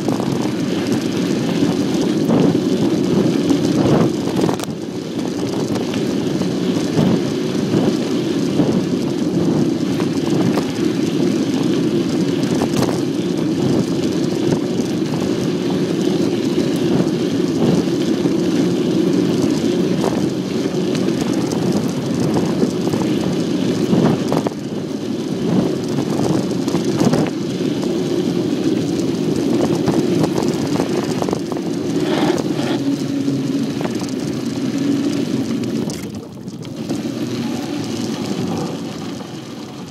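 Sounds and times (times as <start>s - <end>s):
bicycle tyres rumbling on trail: 0.0s - 39.9s.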